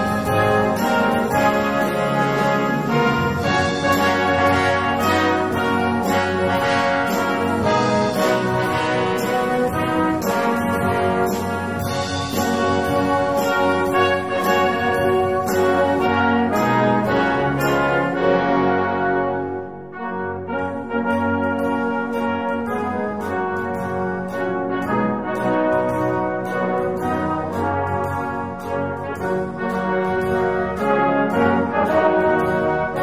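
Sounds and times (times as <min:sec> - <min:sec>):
brass band music: 0:00.0 - 0:33.0.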